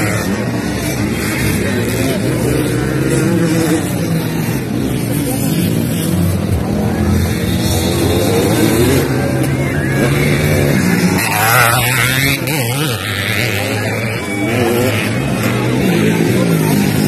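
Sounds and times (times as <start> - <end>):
dirt bike engines running: 0.0 - 17.0.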